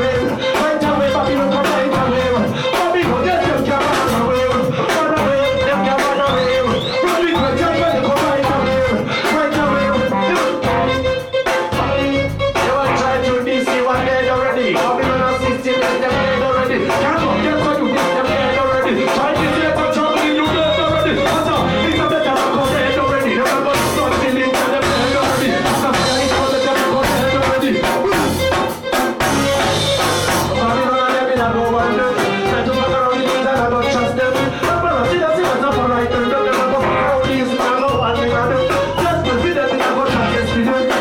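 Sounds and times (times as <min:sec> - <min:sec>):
drum kit hits: 0:00.0 - 0:33.7, 0:34.3 - 0:41.0
reggae band playing: 0:00.0 - 0:41.0.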